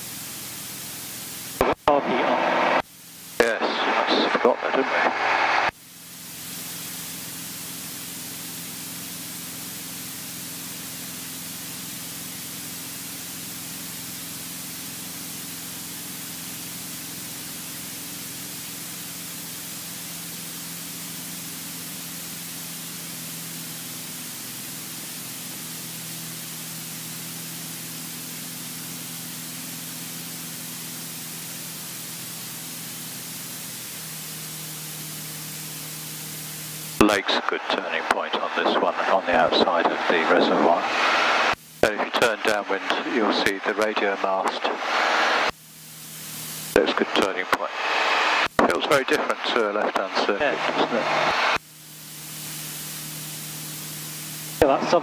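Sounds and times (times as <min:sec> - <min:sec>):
aircraft engine drone: 0:00.0 - 0:55.0
intercom hiss: 0:01.5 - 0:55.0.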